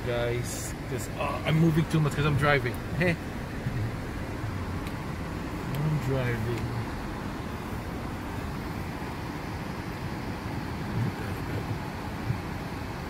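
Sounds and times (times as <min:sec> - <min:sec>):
car cabin rumble while driving: 0:00.0 - 0:13.0.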